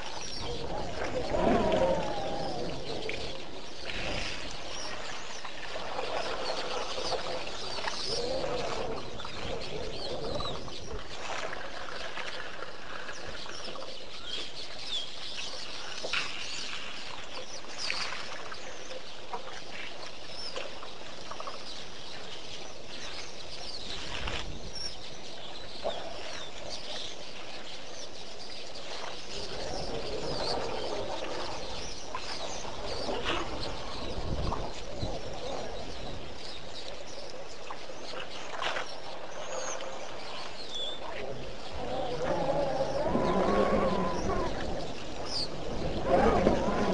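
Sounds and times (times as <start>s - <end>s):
wild birds calling and chirping: 0.0s - 19.2s, 22.9s - 46.9s.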